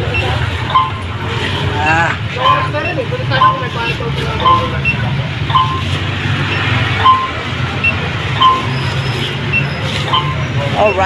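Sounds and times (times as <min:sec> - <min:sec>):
short sharp beeps: 0:00.1 - 0:11.0.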